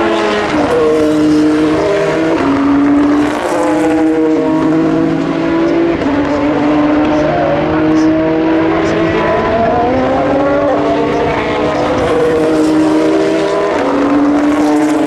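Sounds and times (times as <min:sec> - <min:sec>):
race car engines at high revs: 0:00.0 - 0:15.0.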